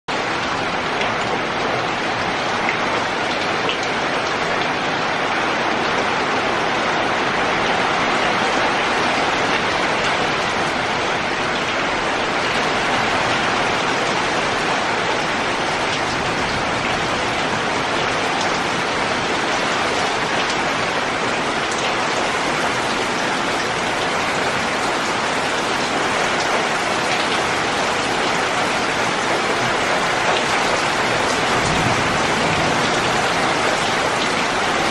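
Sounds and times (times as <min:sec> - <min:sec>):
heavy rain on metal roof: 0:00.1 - 0:34.9.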